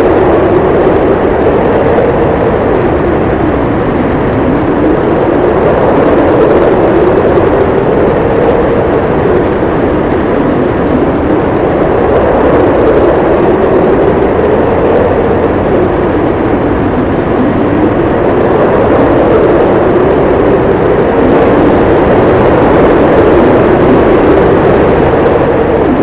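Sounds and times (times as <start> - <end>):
howling blizzard wind: 0.0 - 26.0.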